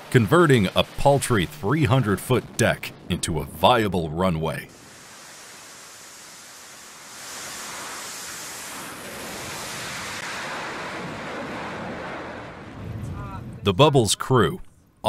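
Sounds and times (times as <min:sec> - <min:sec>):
steady rushing noise: 0:00.0 - 0:13.7.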